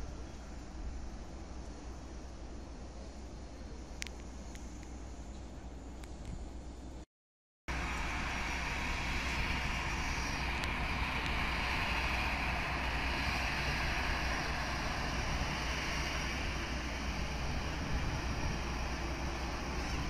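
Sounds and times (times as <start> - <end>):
jet airliner engines taxiing: 0.0 - 7.0, 7.7 - 20.0.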